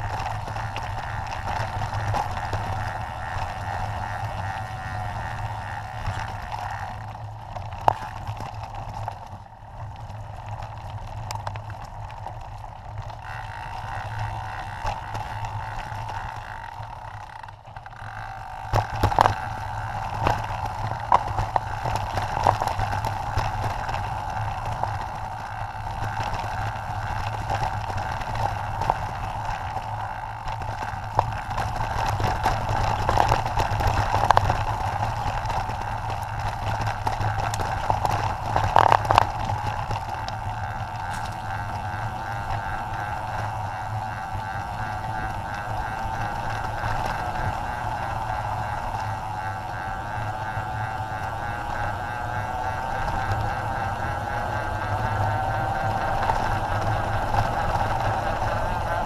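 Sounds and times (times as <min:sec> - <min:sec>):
bike rattling and knocking: 0:00.0 - 0:59.0
bike tyres rolling over stones: 0:00.0 - 0:59.0
steady hum: 0:00.0 - 0:59.0.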